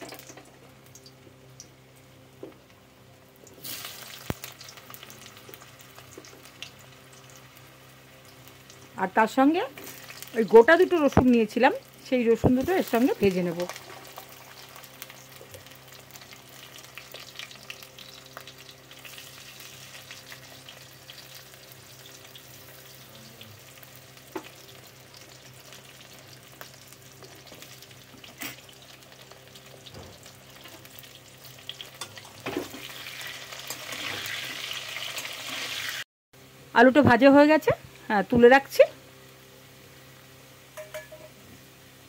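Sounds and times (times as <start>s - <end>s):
potatoes sizzling in hot oil: 0.0s - 36.1s.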